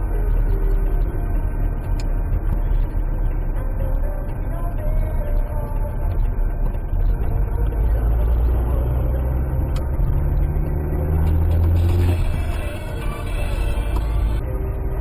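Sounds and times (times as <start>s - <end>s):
car engine rumble inside cabin: 0.0s - 15.0s
tyre and road noise: 0.0s - 15.0s.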